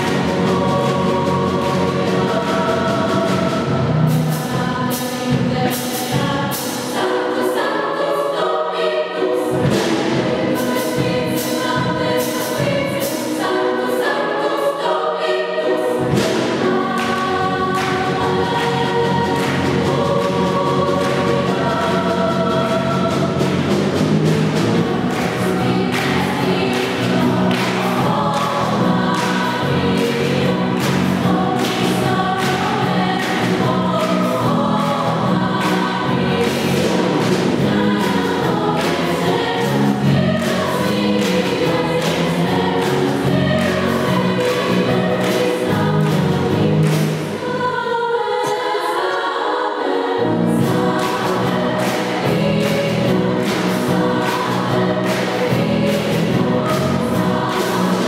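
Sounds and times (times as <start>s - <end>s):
girls choir singing: 0.0s - 58.0s.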